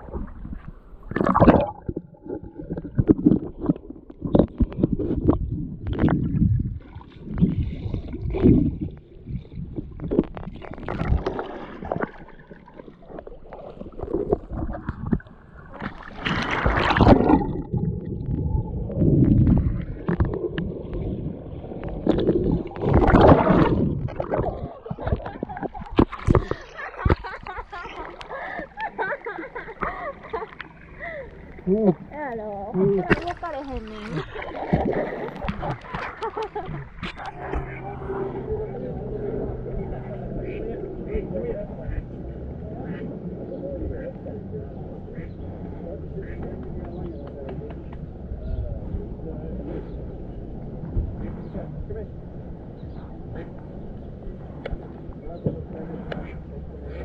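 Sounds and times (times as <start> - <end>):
river water sloshing and gurgling: 0.0 - 48.4
water splashes: 0.0 - 57.0.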